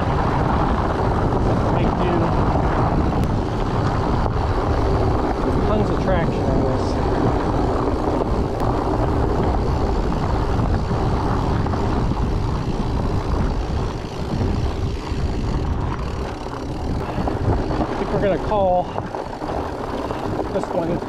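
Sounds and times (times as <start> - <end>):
bike tyres rolling over dirt: 0.0 - 21.0
wind noise on microphone: 0.0 - 21.0.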